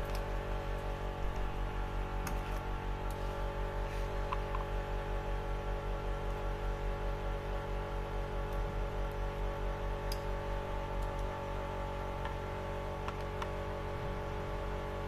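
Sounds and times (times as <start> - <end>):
electrical hum with pulsing throb: 0.0 - 15.0.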